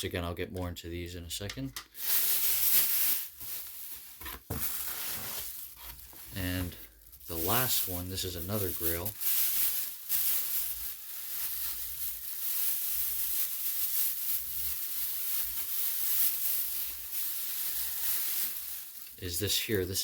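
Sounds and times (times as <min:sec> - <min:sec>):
packing material rustling: 0:01.9 - 0:20.0.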